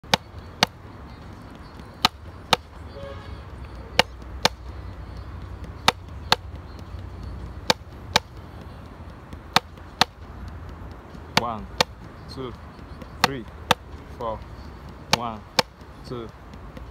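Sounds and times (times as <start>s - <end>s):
drumsticks striking practice pad: 0.0s - 2.9s, 3.6s - 16.9s.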